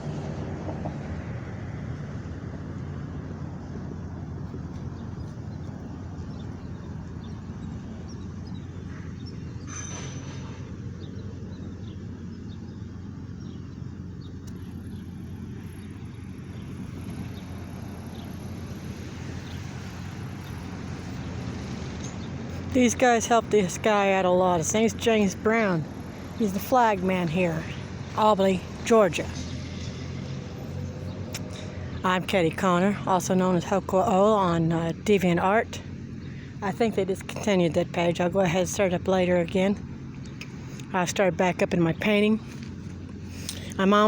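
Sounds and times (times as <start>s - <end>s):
vehicle engine humming: 0.0s - 44.0s
birds chirping: 2.5s - 44.0s.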